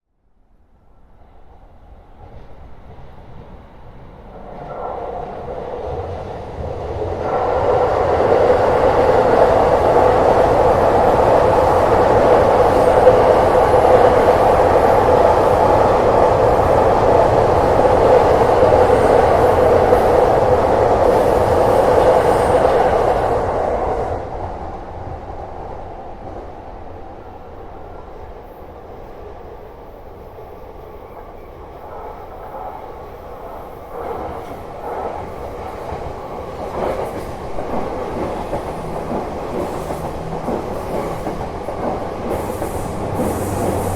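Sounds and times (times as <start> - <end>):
train wheels rumbling on rail: 1.5 - 43.9.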